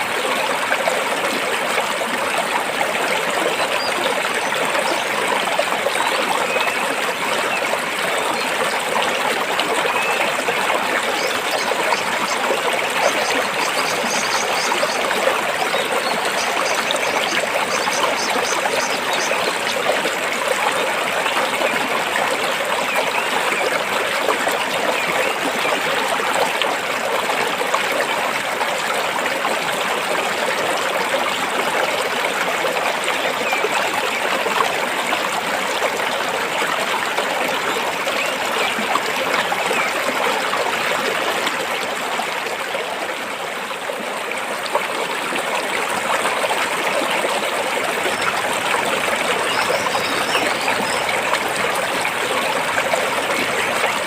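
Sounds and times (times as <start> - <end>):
stream trickling over rocks: 0.0 - 54.0.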